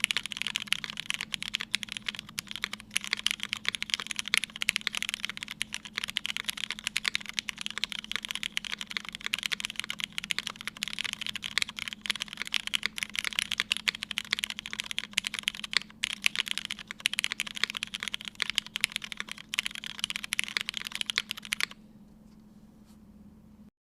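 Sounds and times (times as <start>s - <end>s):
fast typing on mechanical keyboard: 0.0s - 21.8s
faint steady hum: 0.0s - 23.7s.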